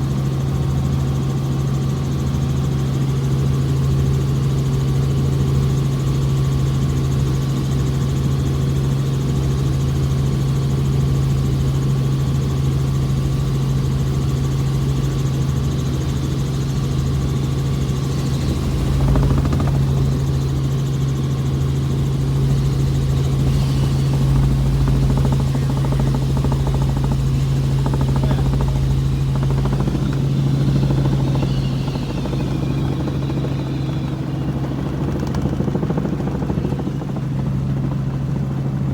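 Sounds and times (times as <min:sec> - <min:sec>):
helicopter drone: 0:00.0 - 0:38.9.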